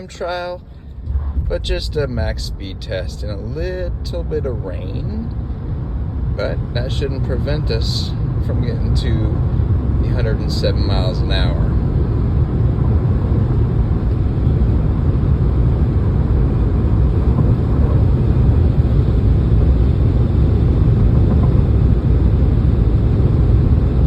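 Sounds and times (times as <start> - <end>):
tyre and wind noise rumble: 0.0 - 24.0.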